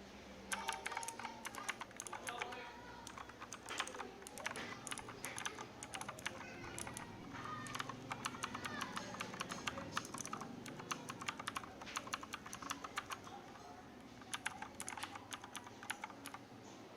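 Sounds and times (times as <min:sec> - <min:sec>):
mechanical keyboard typing: 0:00.5 - 0:16.5.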